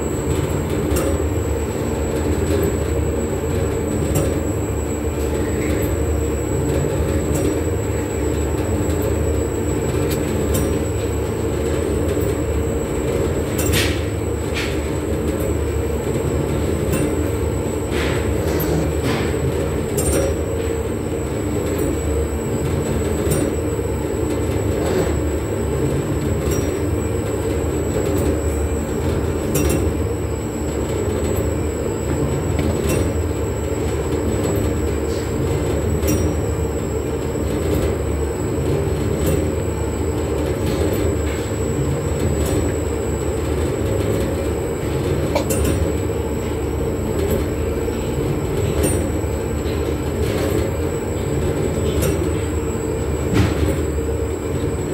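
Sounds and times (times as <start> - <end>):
industrial mixer rumbling: 0.0 - 54.9.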